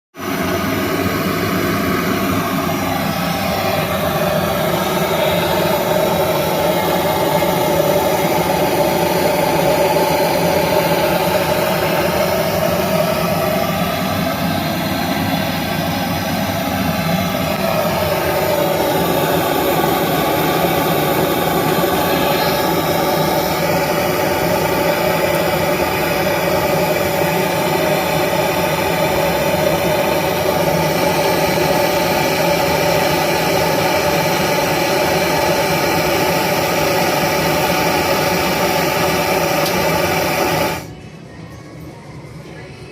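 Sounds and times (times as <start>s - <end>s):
machine engine drone: 0.2s - 42.9s.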